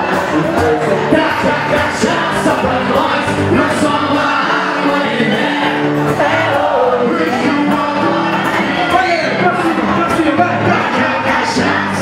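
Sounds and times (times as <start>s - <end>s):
singing over a full band: 0.0s - 12.0s.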